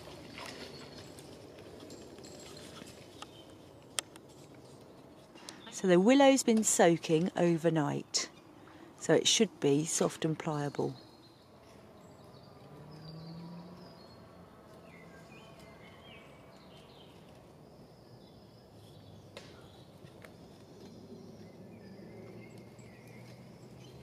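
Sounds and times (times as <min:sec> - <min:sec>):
small birds chirping: 0:02.3 - 0:24.0.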